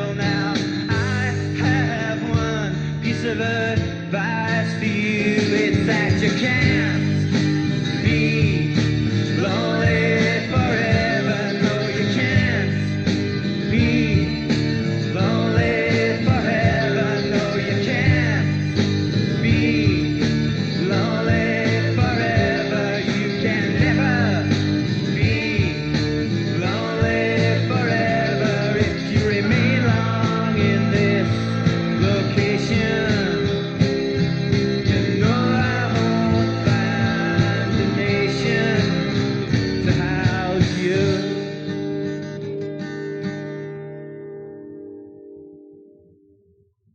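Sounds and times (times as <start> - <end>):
rock music with guitar and drums: 0.0 - 45.8.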